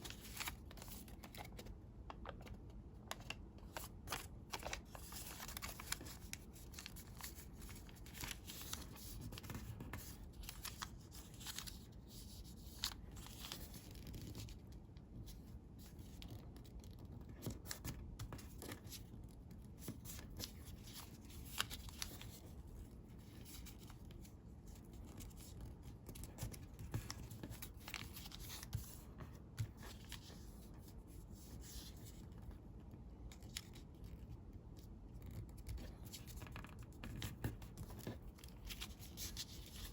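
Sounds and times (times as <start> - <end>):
paper rustling and crinkling: 0.0 - 32.6, 33.2 - 34.4, 35.1 - 39.9.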